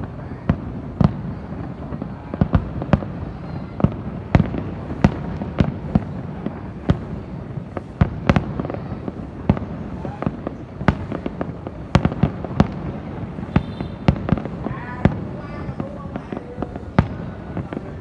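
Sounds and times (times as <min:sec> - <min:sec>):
fireworks bangs: 0:00.0 - 0:18.0
rumble of fireworks bursts: 0:00.0 - 0:18.0.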